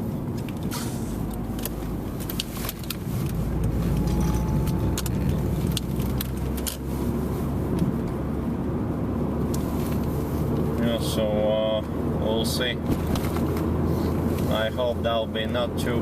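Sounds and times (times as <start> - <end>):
car rattling over bumps: 0.0 - 11.2, 11.8 - 16.0
engine and tyre rumble: 0.0 - 16.0.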